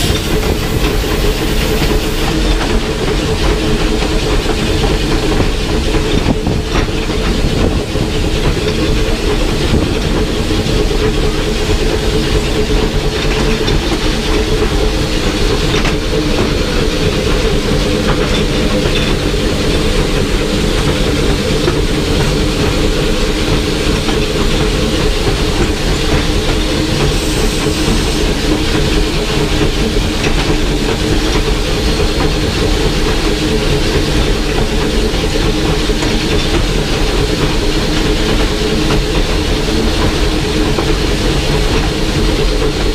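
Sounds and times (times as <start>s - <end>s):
steam locomotive running: 0.0s - 42.9s.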